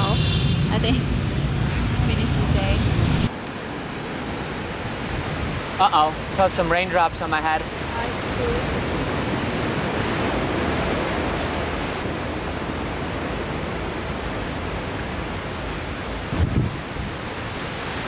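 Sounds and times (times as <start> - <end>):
waves breaking on beach: 3.3 - 18.0.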